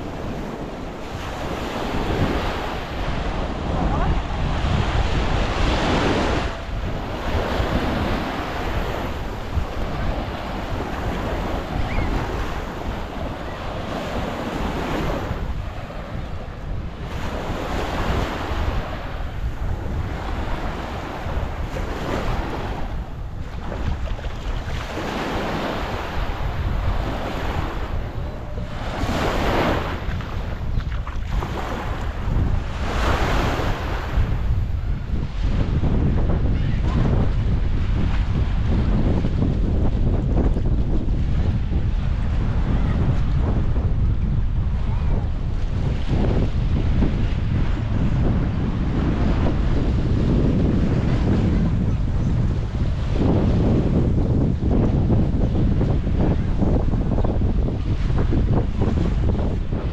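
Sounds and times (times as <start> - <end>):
waves washing onto sand: 0.0 - 59.9
wind buffeting microphone: 0.0 - 59.9.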